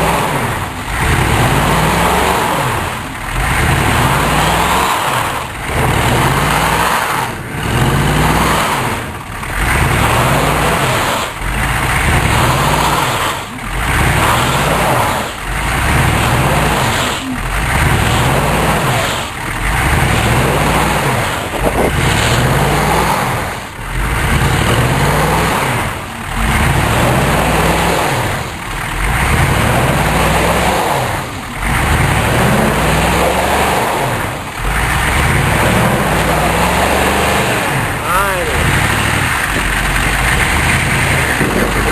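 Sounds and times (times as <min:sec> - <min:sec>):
diesel engine revving: 0:00.0 - 0:41.9
wide rushing noise: 0:00.0 - 0:41.9.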